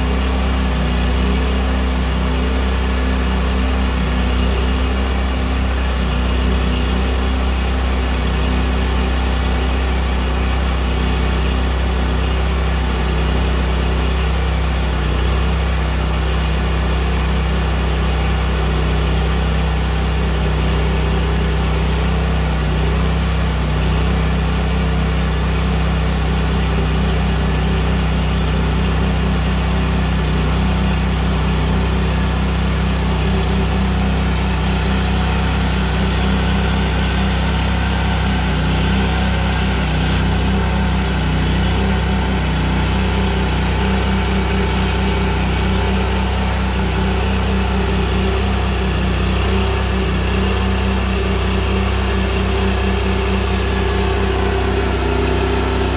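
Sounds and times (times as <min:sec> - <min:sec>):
band blade sawing log: 0:00.0 - 0:55.9
sawmill engine running: 0:00.0 - 0:55.9.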